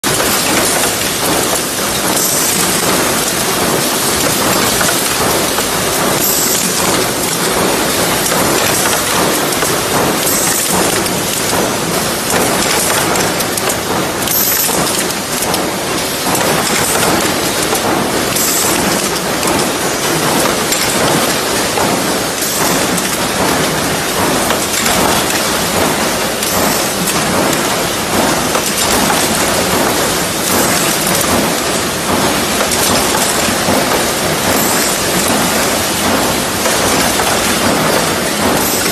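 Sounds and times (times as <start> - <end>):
machine metallic rattle and clatter: 0.0 - 38.9.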